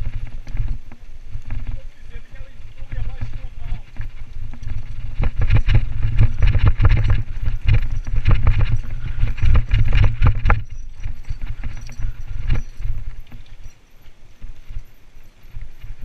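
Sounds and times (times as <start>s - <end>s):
bike rattling over rough ground: 0.0s - 16.0s
wind rumbling on microphone: 0.0s - 16.0s.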